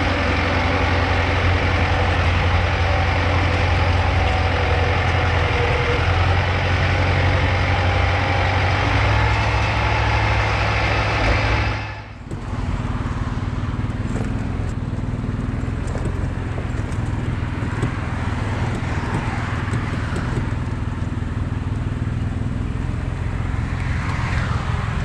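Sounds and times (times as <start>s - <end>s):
golf cart humming: 0.0s - 25.0s.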